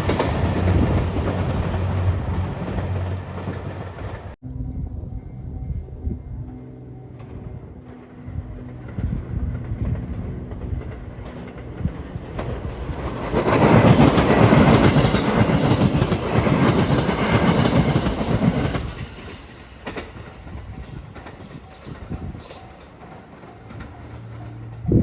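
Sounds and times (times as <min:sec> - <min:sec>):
train wheels clacking: 0:00.0 - 0:04.4, 0:06.5 - 0:25.0.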